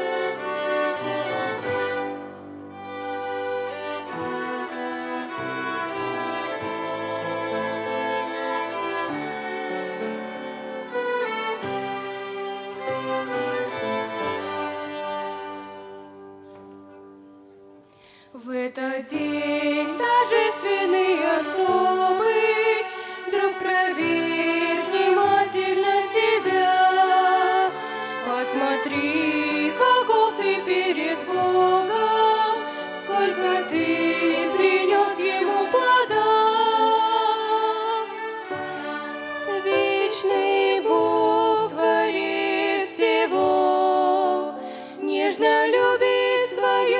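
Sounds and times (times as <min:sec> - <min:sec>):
violin ensemble playing a hymn: 0:00.0 - 0:46.9.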